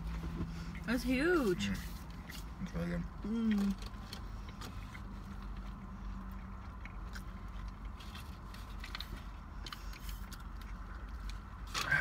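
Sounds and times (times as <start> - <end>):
low steady hum: 0.0 - 12.0
chewing and biting: 2.0 - 12.0.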